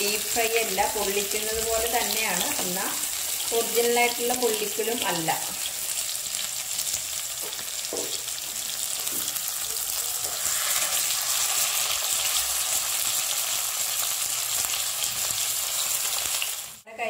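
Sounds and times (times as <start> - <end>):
fish sizzling in oil: 0.0 - 16.9.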